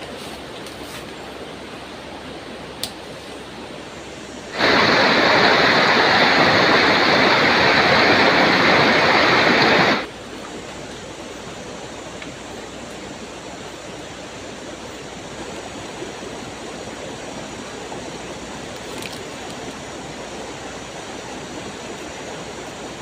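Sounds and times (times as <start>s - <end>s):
outdoor hiss: 0.0s - 23.0s
stream water rushing: 0.0s - 23.0s.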